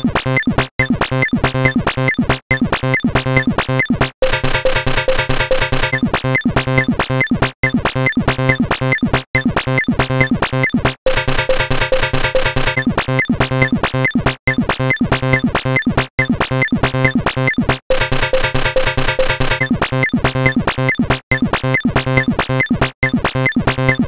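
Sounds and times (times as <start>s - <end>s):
background music of quick repeating notes: 0.0s - 24.0s.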